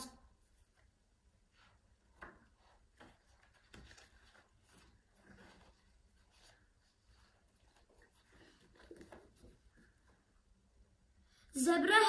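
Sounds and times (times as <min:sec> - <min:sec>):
paper pages rustling: 0:00.4 - 0:10.4.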